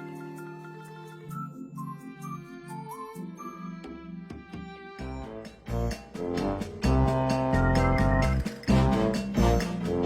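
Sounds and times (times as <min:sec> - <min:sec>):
keyboard-led instrumental music: 0:00.0 - 0:10.0.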